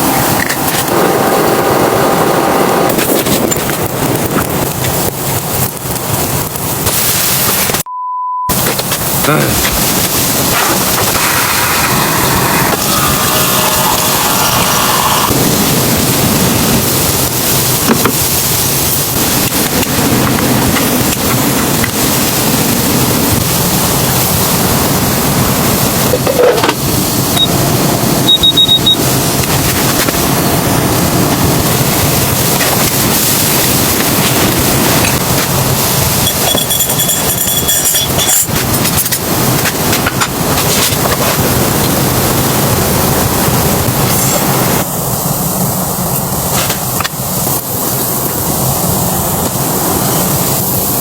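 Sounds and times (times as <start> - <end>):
blizzard wind blowing hard: 0.0 - 7.8, 8.5 - 51.0.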